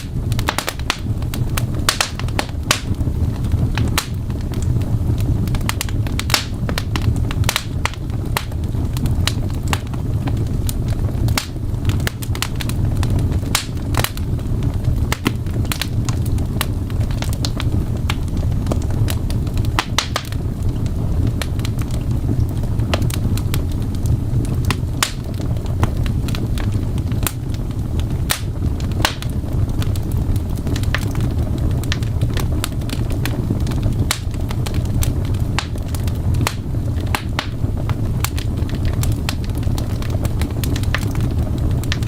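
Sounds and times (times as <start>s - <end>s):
fire crackling and popping: 0.0s - 42.0s
steady low rumble: 0.0s - 42.0s.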